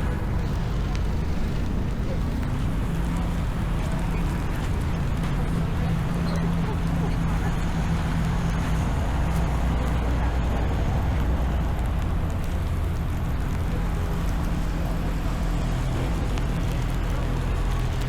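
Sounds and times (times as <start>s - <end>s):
street traffic: 0.0s - 18.0s
vehicle engine running: 0.0s - 18.0s.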